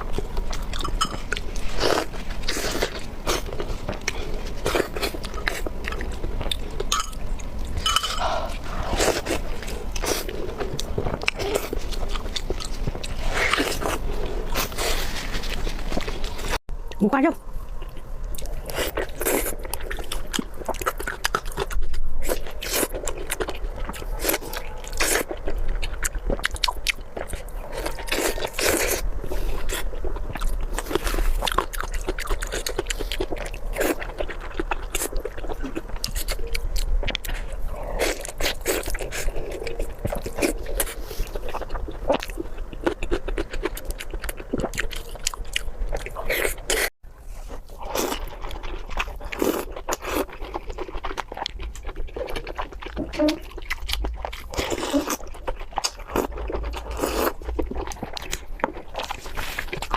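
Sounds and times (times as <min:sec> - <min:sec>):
wet chewing and biting: 0:00.0 - 0:59.9.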